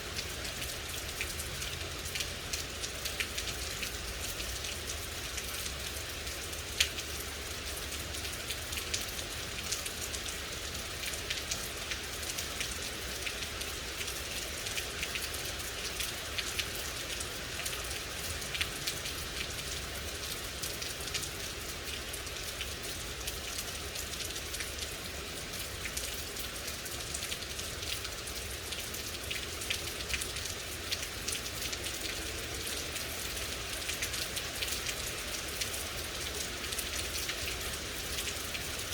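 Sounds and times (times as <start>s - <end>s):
rain falling: 0.0s - 38.9s
raindrops striking a surface: 0.0s - 38.9s.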